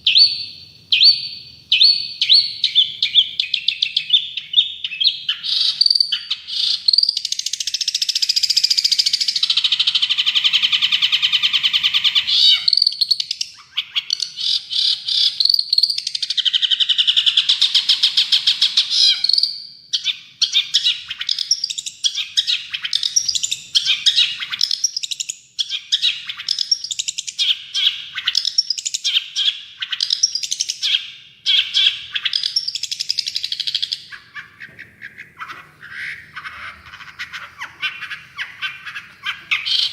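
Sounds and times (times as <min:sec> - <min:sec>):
bird chattering: 0:00.0 - 0:19.4, 0:20.0 - 0:39.9
bird singing buzzy trills: 0:00.0 - 0:39.9.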